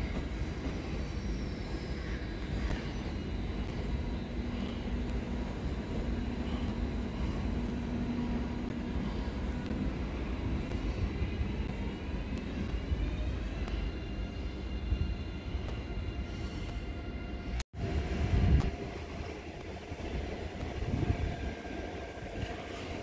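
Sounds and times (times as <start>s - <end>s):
faint hum: 0.0s - 23.0s
train rumbling: 0.0s - 23.0s.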